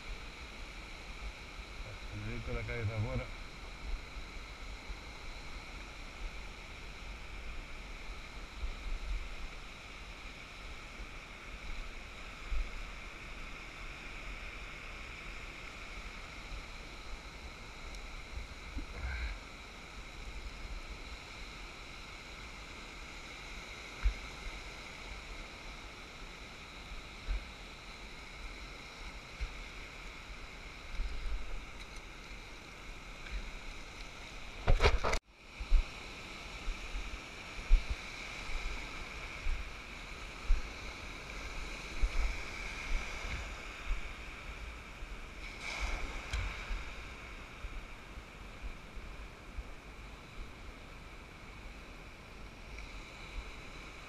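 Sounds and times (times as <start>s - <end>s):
small surf waves breaking on sand: 0.0s - 54.0s.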